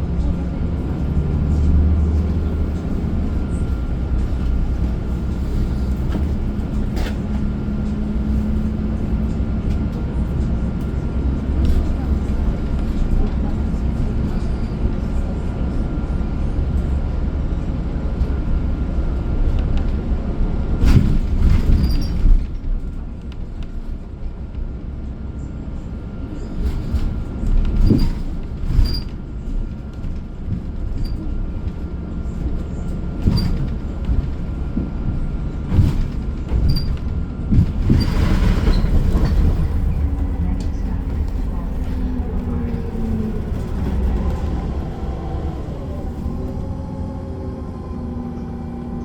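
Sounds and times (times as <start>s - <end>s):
vehicle low rumble: 0.0s - 49.0s.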